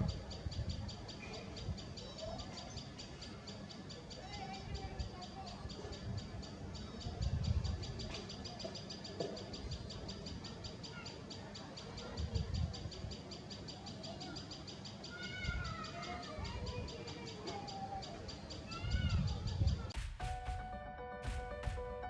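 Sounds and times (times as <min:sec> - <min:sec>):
bird calls: 0:00.0 - 0:20.0.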